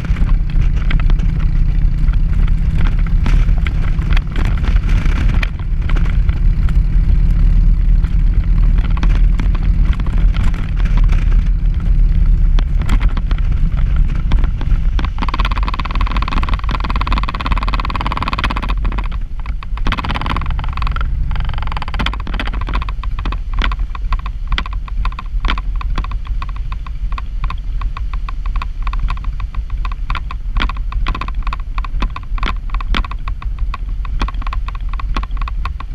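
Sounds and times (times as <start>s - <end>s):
wheels rattling over gravel: 0.0s - 35.9s
wind buffeting microphone: 0.0s - 35.9s.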